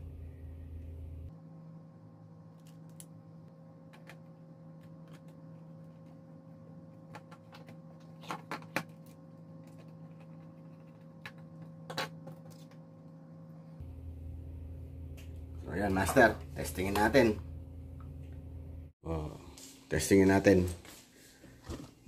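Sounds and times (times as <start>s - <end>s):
faint steady hum: 0.0s - 19.5s.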